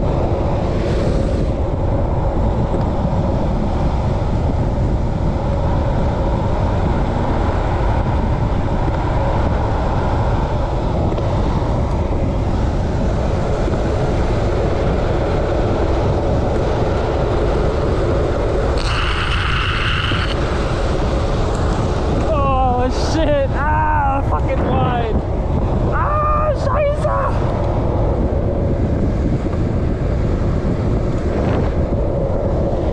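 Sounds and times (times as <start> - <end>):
wheels rolling on asphalt: 0.0 - 32.9
wind buffeting microphone: 0.0 - 32.9.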